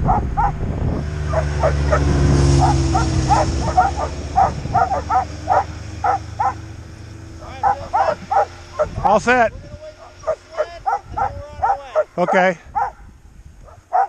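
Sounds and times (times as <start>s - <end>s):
dogs yipping and barking: 0.0s - 9.2s, 10.0s - 14.0s
snowmobile engine humming: 0.0s - 14.0s.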